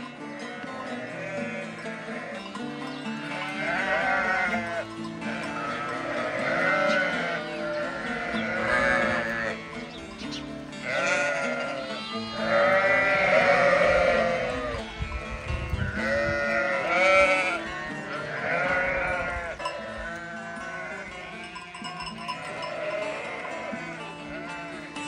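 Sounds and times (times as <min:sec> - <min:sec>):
sheep bleating: 0:00.0 - 0:25.0
soft background music: 0:00.0 - 0:25.0.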